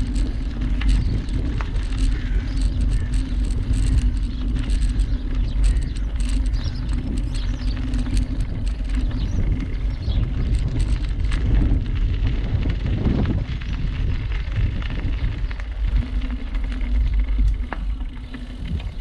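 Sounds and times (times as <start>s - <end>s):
bicycle clicks and rattles: 0.0s - 19.0s
bicycle tyre rumble: 0.0s - 19.0s.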